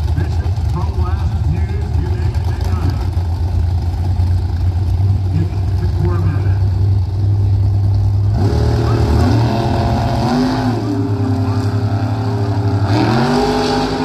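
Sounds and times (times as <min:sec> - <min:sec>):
drag racing cars accelerating: 0:00.0 - 0:14.0.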